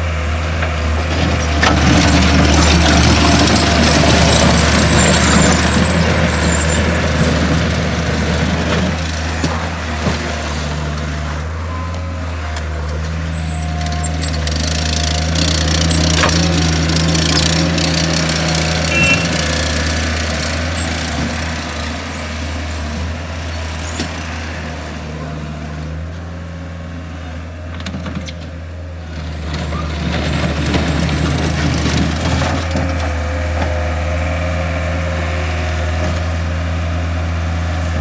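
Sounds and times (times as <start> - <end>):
diesel engine of loader: 0.0 - 38.0.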